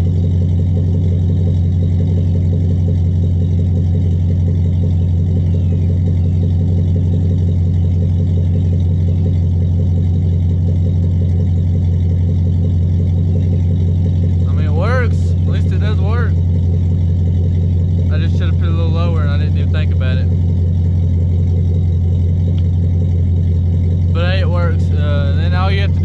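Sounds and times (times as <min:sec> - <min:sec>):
pickup truck engine idling: 0:00.0 - 0:26.0.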